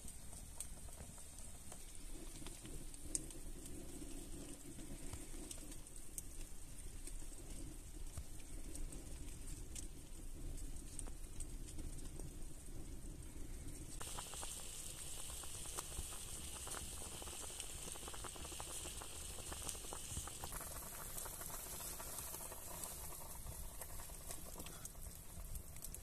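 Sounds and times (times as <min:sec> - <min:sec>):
broth boiling and bubbling: 0:00.0 - 0:26.0.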